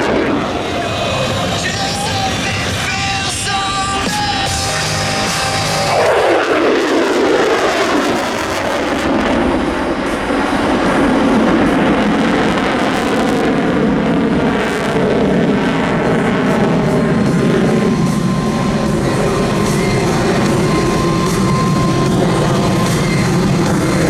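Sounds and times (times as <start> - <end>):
jet engine running: 0.0 - 24.0.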